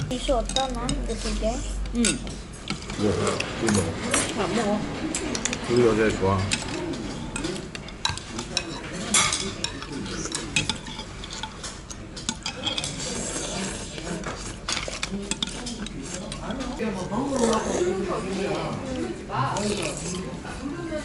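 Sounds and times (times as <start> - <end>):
cutlery clinking against bowls: 0.4 - 20.2.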